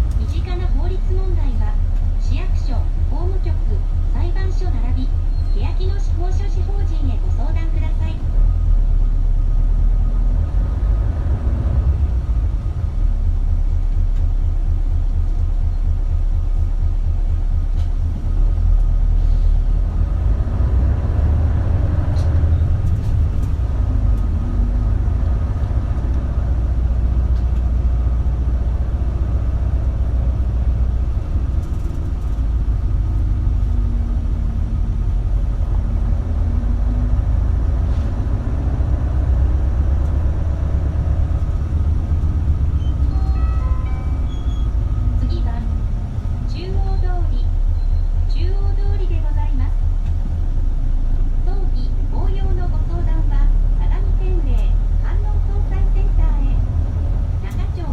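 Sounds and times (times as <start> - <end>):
bus engine rumbling: 0.0 - 57.9.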